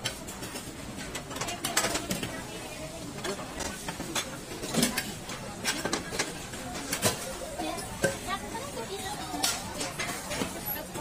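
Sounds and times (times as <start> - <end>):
tongs and plates clinking on trays: 0.0 - 11.0.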